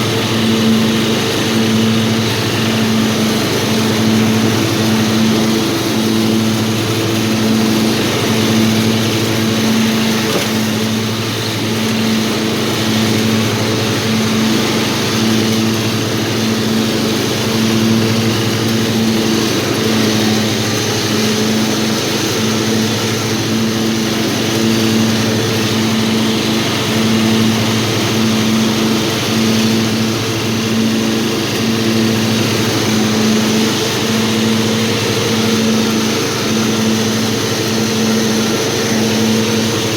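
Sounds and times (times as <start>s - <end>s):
lawnmower engine running: 0.0s - 39.9s.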